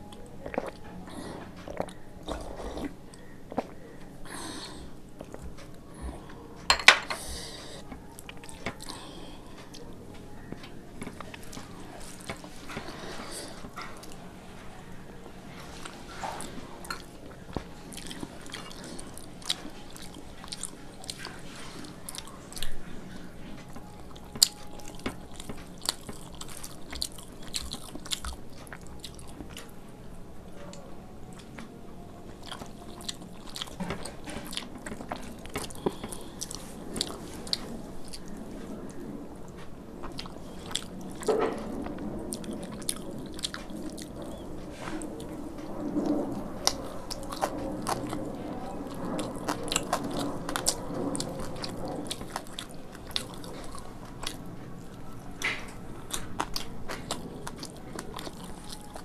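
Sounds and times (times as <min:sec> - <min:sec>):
person chewing: 0:00.0 - 0:06.4, 0:15.5 - 0:29.8, 0:30.6 - 0:39.0, 0:40.0 - 0:59.0.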